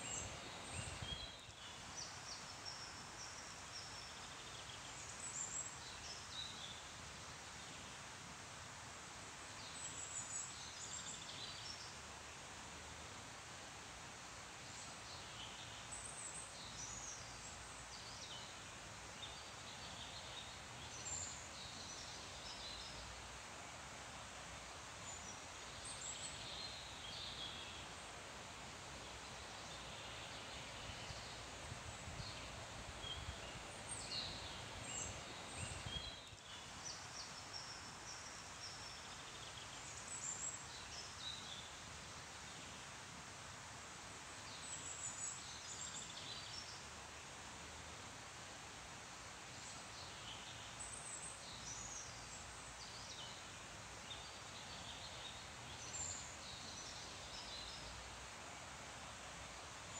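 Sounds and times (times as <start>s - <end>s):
leaves rustling in wind: 0.0s - 59.9s
small songbirds chirping: 0.0s - 59.9s.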